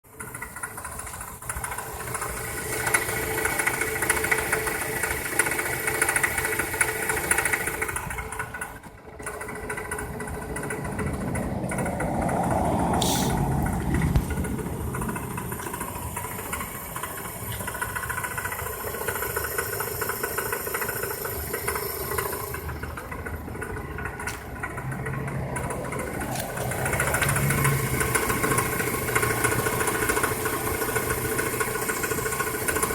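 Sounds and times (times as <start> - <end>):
car engine running: 0.1 - 32.9.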